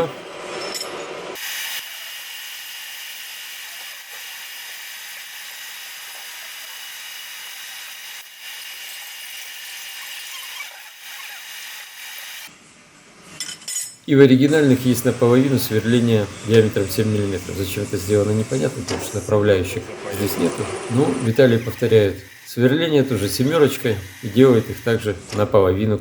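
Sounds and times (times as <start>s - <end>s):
drilling machine whirring: 1.4s - 12.5s, 14.5s - 25.6s.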